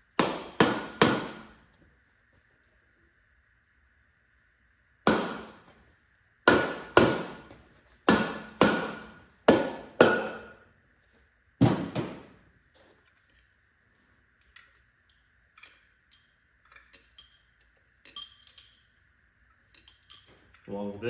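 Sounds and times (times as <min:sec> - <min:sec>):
faint high hum: 0:00.0 - 0:21.0.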